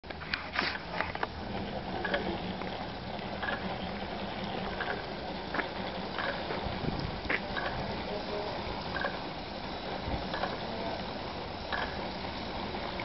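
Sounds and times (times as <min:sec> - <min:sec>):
motor hum: 0:00.1 - 0:13.0
water gurgling and splashing: 0:00.2 - 0:13.0.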